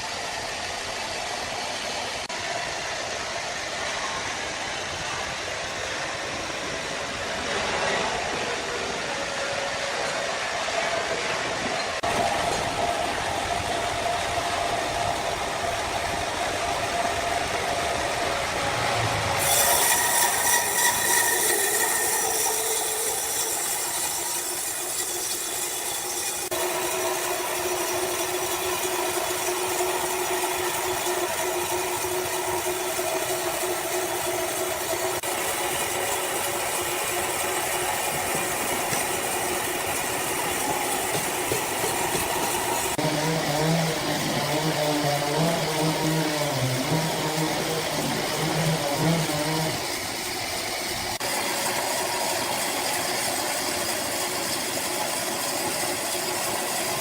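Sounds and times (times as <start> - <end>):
sawmill saw cutting wood: 5.1 - 57.0.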